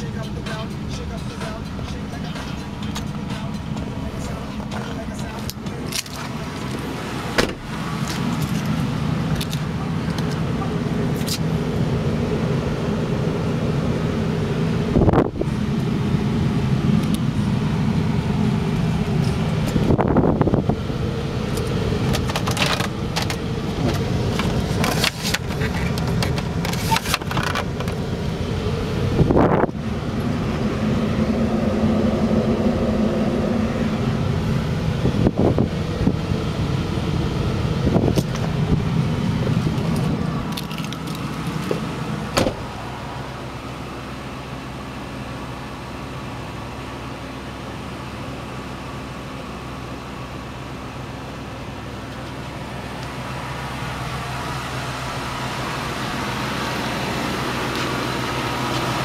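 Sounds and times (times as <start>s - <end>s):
suv engine idling: 0.0s - 59.0s.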